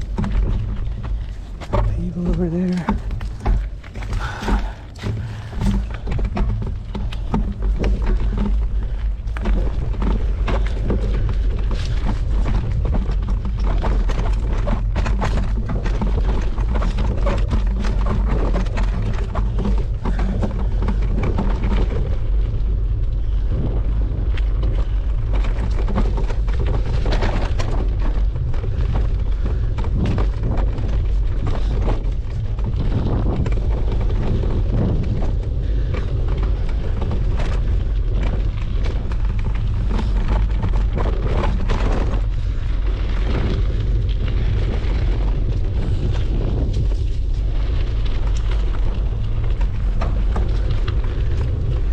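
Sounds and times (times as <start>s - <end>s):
bike rattling and knocking: 0.0s - 51.9s
bike tyres rumbling on dirt: 0.0s - 51.9s
wind on microphone: 0.0s - 51.9s.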